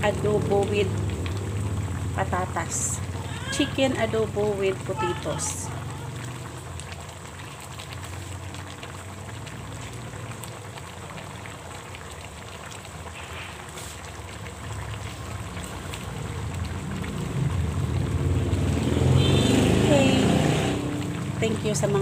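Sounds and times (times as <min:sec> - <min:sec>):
sauce bubbles popping: 0:00.0 - 0:22.0.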